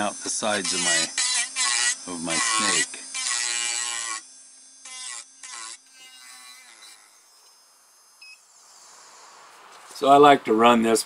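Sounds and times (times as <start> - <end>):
rotary tool grinding wood: 0.0 - 9.6.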